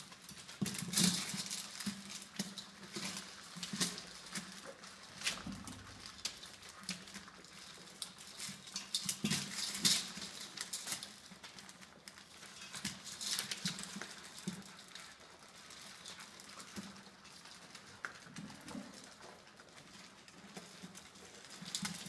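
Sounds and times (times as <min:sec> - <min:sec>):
paws rustling paper: 0:00.0 - 0:22.0
puppies crunching kibble: 0:00.0 - 0:22.0.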